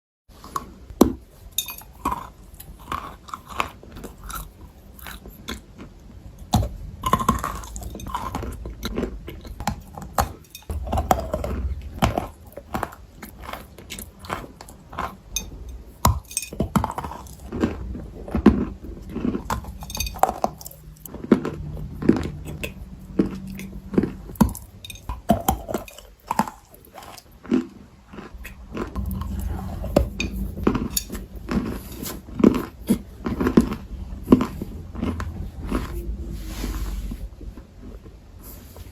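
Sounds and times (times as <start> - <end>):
chewing and crunching food: 0.3 - 38.9.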